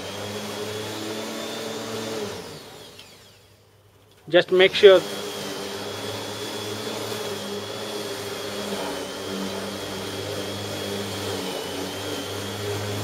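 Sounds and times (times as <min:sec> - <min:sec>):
electric lawnmower whining: 0:00.0 - 0:13.0.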